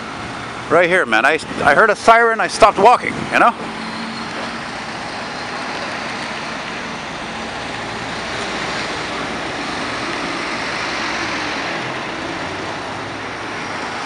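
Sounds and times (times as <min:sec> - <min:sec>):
fire truck driving by: 0:00.0 - 0:14.0
street traffic passing: 0:00.0 - 0:14.0.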